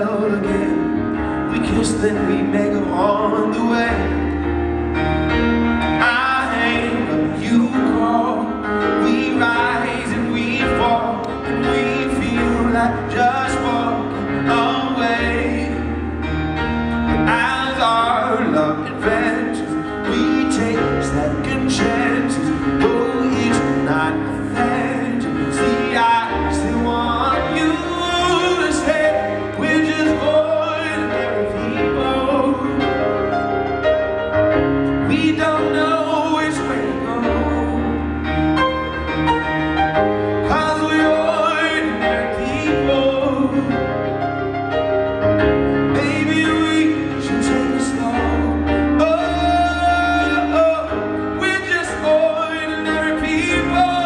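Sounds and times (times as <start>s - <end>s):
man singing a ballad: 0.0s - 39.2s, 39.9s - 54.0s
grand piano: 0.0s - 54.0s.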